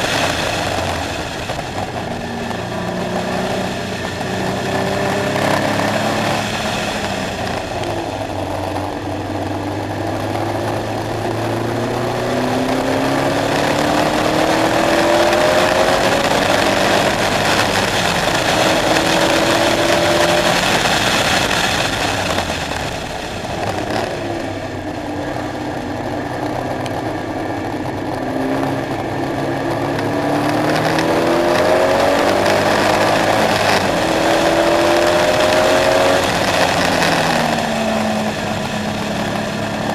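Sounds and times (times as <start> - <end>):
sports car engine accelerating: 0.0 - 39.9.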